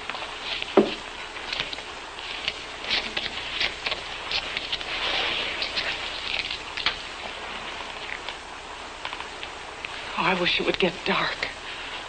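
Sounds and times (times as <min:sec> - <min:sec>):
rain pattering: 0:00.0 - 0:11.6.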